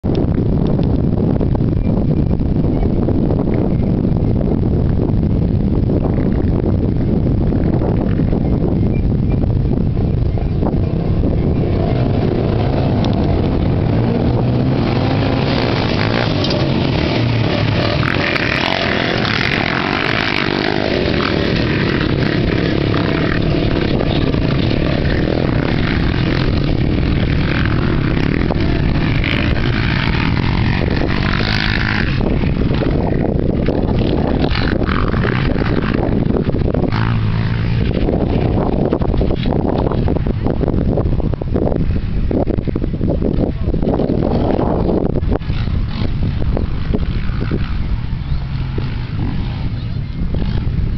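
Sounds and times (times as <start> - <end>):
quad bike engines revving: 0.2 - 50.9.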